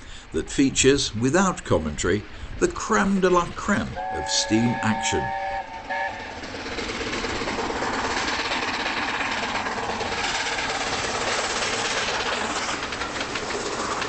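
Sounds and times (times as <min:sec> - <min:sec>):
steam locomotive running: 0:00.0 - 0:14.0.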